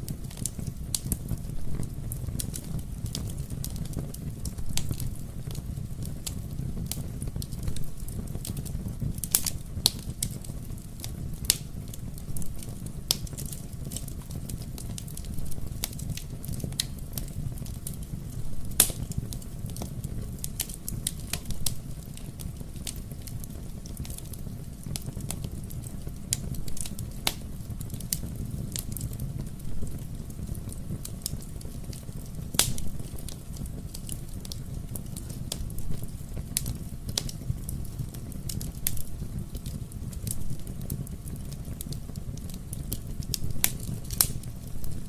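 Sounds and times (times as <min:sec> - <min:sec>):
fire crackling and popping: 0:00.0 - 0:45.0
low rumble of fire: 0:00.0 - 0:45.0.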